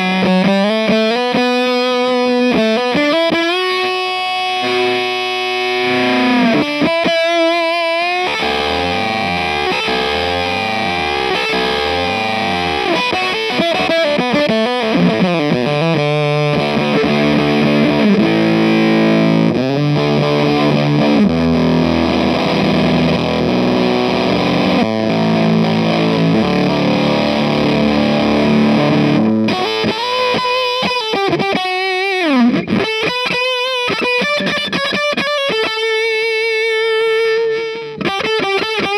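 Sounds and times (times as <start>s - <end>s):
swooping guitar pitch sweeps: 0.0s - 34.9s
distorted electric guitar: 0.0s - 38.9s.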